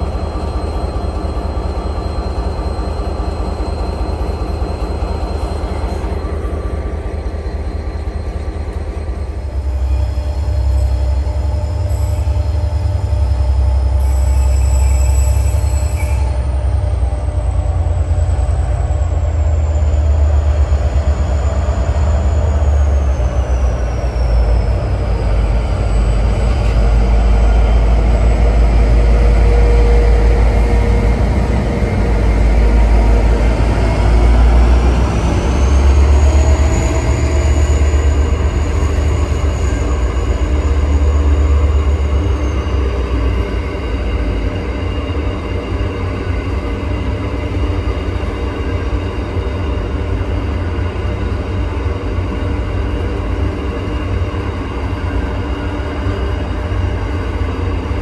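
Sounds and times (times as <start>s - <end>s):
thin high train whine: 0.0s - 58.0s
train rumbling on track: 0.0s - 58.0s.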